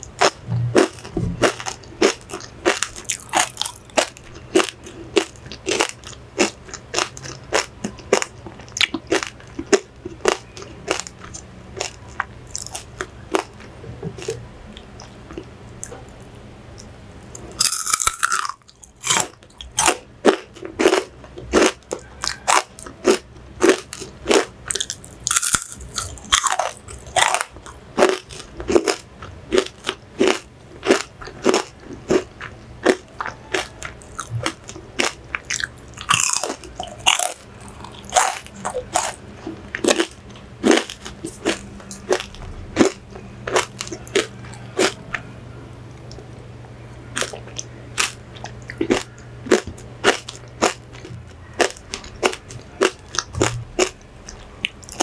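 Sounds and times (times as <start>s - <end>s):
crunching and chewing pork rinds: 0.0s - 55.0s.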